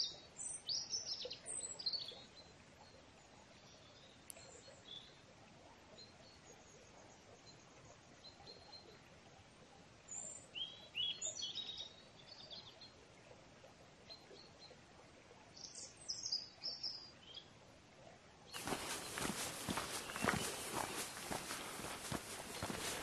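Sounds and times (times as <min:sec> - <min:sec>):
faint steady hiss: 0:00.0 - 0:23.0
songbirds chirping and trilling: 0:00.0 - 0:23.0.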